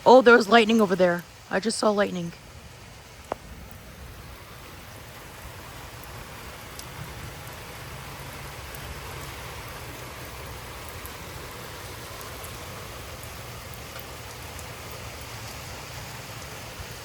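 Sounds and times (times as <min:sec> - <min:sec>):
heavy rain pouring: 0:00.0 - 0:17.0
raindrop ticks: 0:00.4 - 0:02.0, 0:03.1 - 0:17.0.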